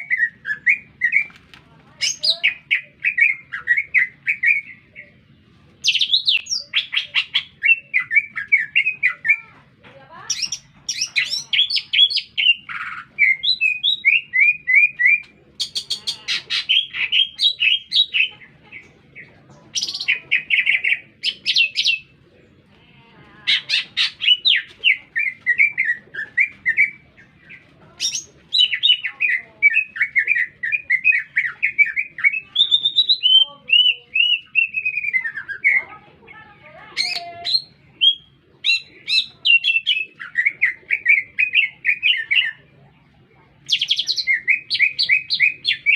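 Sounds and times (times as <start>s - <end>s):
bird singing chattering notes: 2.0s - 9.5s, 10.3s - 22.2s, 23.5s - 42.7s, 43.6s - 45.9s.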